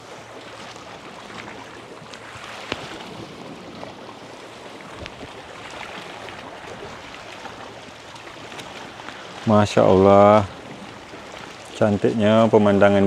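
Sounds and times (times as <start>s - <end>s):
wind and sea water rushing: 0.0s - 13.0s.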